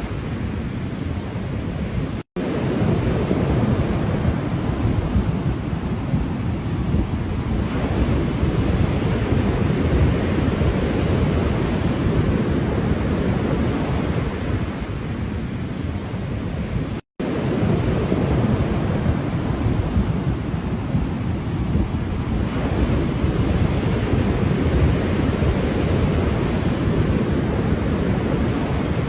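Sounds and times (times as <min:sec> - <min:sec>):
ocean surf washing: 0:00.0 - 0:29.0.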